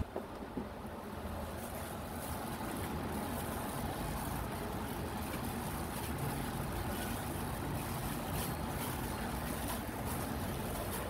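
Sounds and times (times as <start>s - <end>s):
low rumbling background noise: 0.0s - 11.0s
gloved hand mixing in steel bowl: 1.1s - 11.0s.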